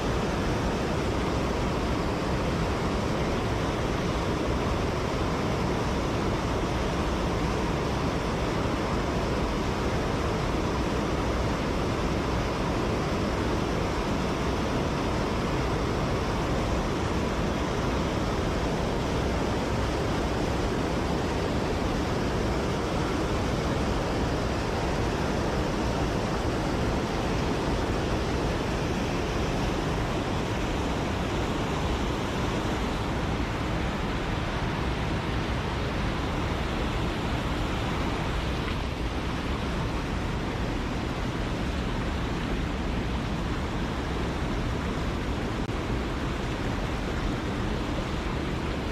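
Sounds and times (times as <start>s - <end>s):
stream rushing over rocks: 0.0s - 48.9s.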